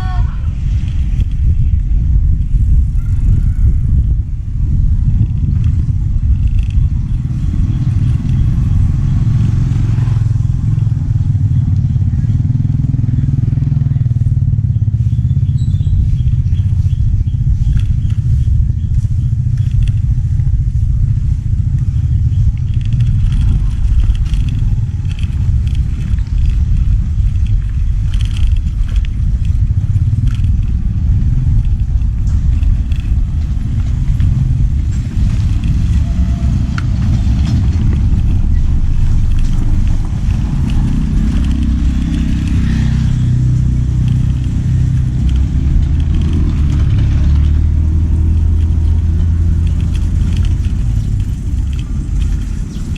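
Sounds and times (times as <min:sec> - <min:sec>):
engine hum: 0:00.0 - 0:52.9
vehicle low rumble: 0:00.0 - 0:52.9.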